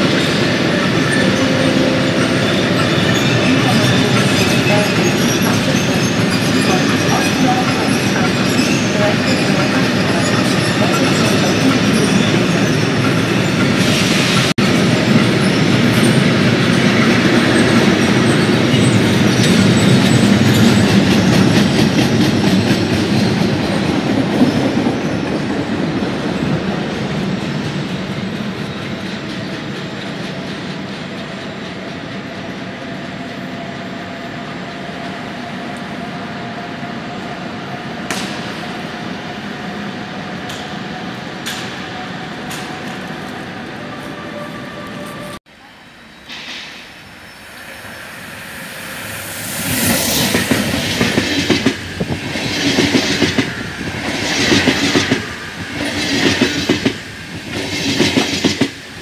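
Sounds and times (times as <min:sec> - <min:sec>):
rail station din: 0:00.0 - 0:59.0.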